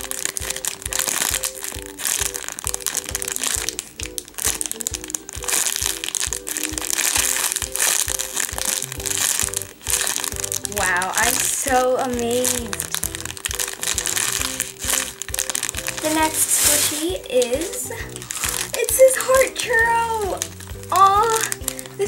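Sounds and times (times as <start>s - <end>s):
background music with steady beat: 0.0s - 22.0s
plastic bag crinkling: 0.0s - 22.0s.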